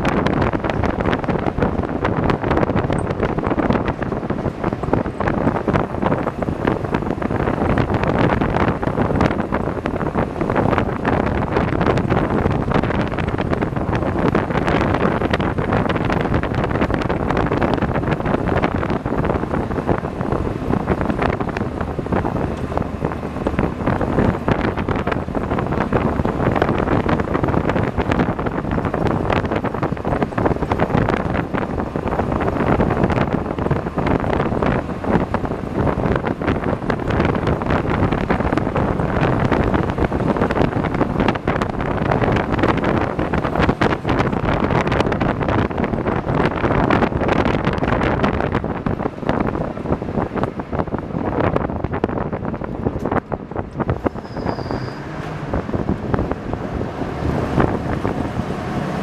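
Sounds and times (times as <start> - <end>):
road noise: 0.0 - 59.0
vehicle engine: 0.0 - 59.0
wind buffeting microphone: 0.0 - 59.0.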